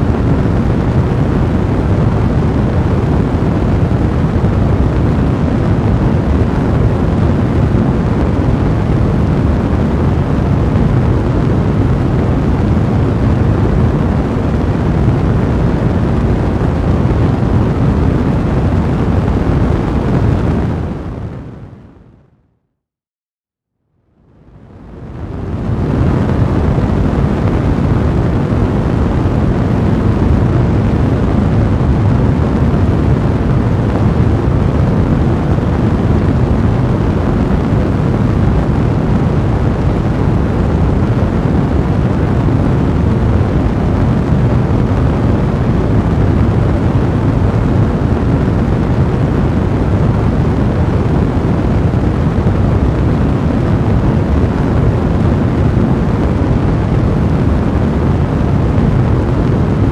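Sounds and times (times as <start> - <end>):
fire roaring: 0.0 - 21.8, 24.5 - 59.9.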